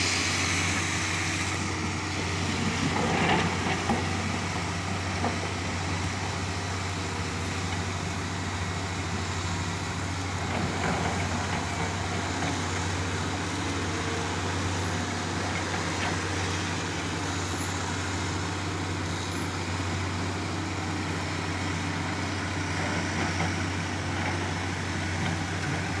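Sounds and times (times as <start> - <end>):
rock drilling rig drone: 0.0 - 26.0.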